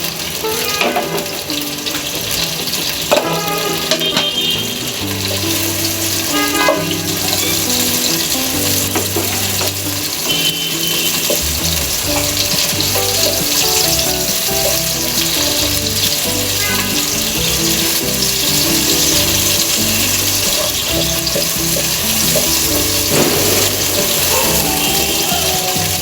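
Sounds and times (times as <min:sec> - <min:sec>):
background music: 0:00.0 - 0:26.0
onion frying in oil: 0:00.0 - 0:26.0.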